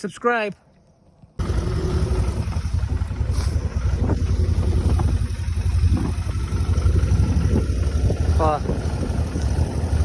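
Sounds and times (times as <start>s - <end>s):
motorcycle engine rumbling: 0.9s - 10.0s.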